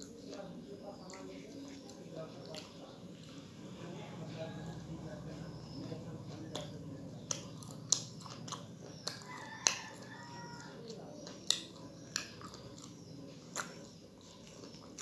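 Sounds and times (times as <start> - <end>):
person chewing with lip smacks: 0.0 - 3.5, 6.4 - 15.0.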